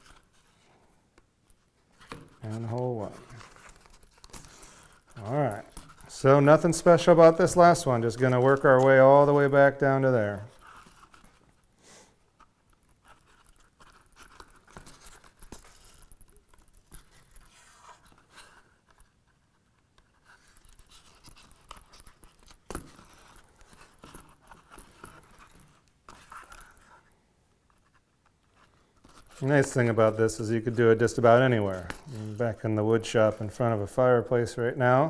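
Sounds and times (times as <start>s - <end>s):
hand stitching leather: 0.0s - 33.6s.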